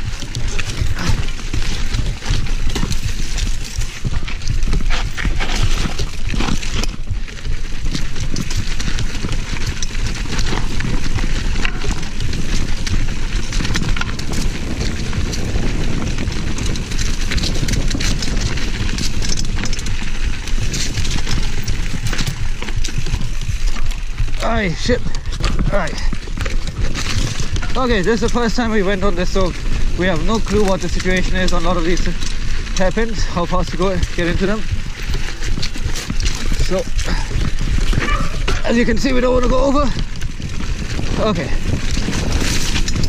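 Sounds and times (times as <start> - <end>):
bike rattling and clattering: 0.0 - 43.0
low wind rumble on microphone: 0.0 - 43.0
tyres crunching over stones: 0.0 - 43.0.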